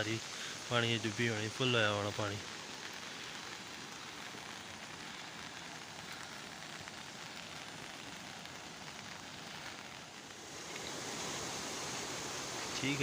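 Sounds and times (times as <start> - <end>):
water hissing: 0.0 - 13.0.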